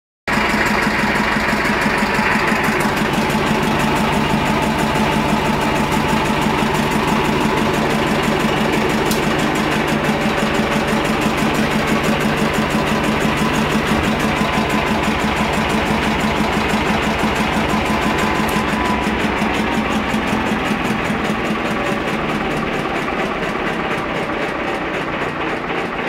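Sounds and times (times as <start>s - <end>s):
diesel engine running steadily: 0.3s - 26.0s.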